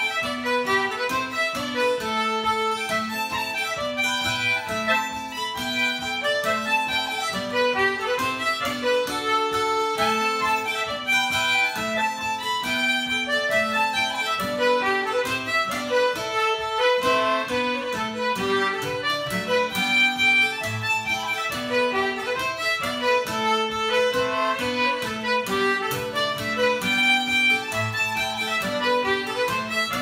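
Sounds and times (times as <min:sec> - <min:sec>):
fiddle and concertina polka: 0:00.0 - 0:30.0
strummed acoustic guitar: 0:00.0 - 0:30.0.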